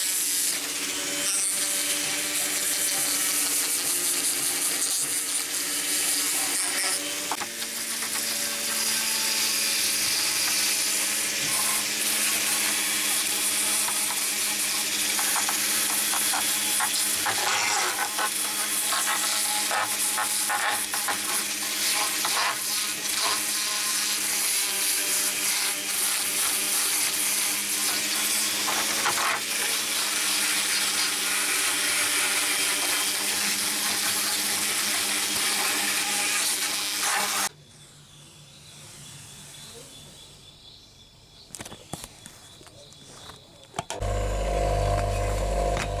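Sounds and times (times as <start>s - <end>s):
small power tool motor: 0.0s - 40.1s, 44.0s - 46.0s.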